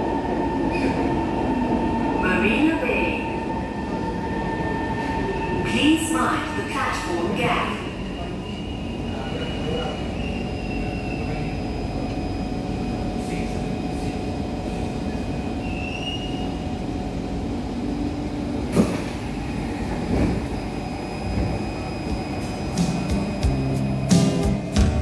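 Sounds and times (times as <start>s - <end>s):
metro train rumble: 0.0s - 25.0s.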